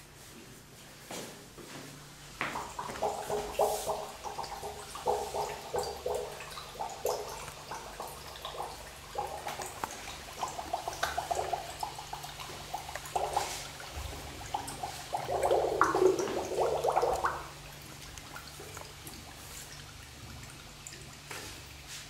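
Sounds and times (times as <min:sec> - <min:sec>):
small drips and clicks: 0:02.4 - 0:22.0
water gurgling and bubbling: 0:02.6 - 0:21.9.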